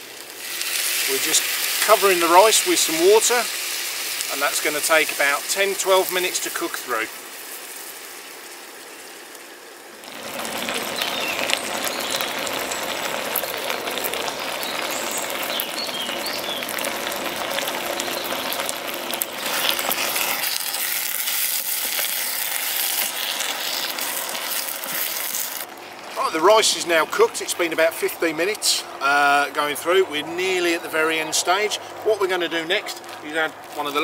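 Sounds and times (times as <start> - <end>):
rice sizzling in a pan: 0.0 - 28.1.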